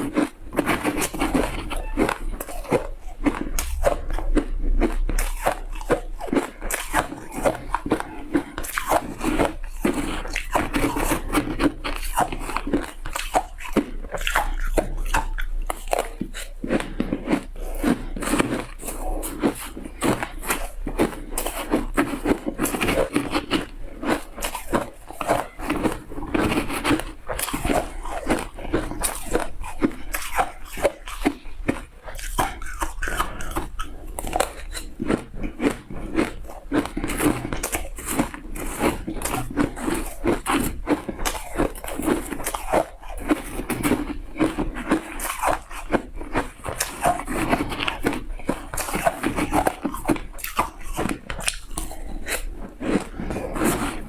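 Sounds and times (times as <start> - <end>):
shaved ice crunching when chewed: 0.0 - 54.0.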